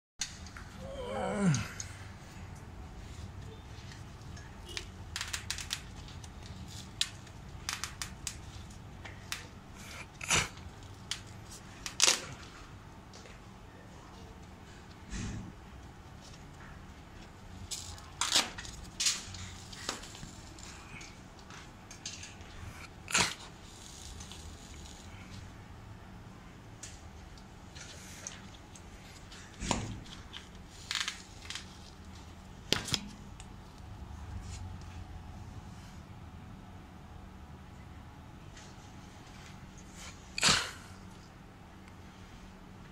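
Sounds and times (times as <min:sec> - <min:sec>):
steady low hum: 0:00.2 - 0:42.9.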